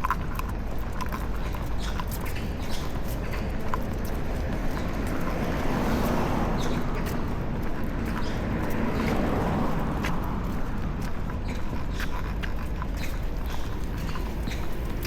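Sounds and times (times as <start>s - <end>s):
cars passing: 0.0s - 15.0s
steady low traffic rumble: 0.0s - 15.0s.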